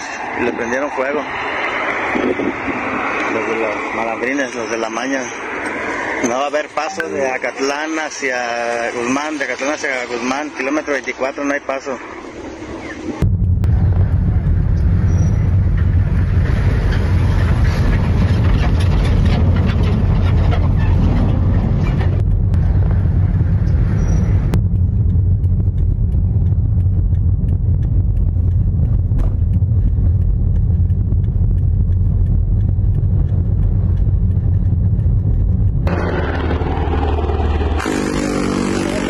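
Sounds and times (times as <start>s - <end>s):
car driving on highway: 0.0s - 39.0s.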